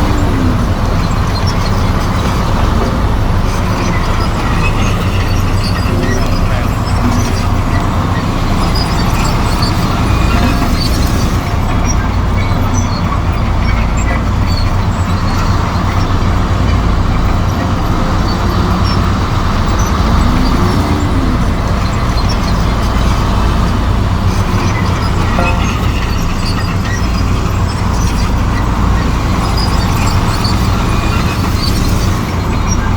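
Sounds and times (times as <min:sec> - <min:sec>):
bulldozer diesel engine running: 0:00.0 - 0:32.9.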